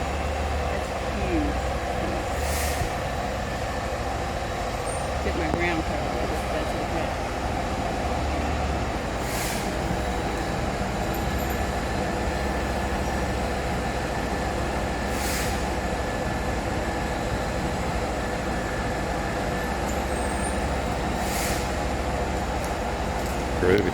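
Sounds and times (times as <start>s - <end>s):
heavy engine running: 0.0s - 23.9s.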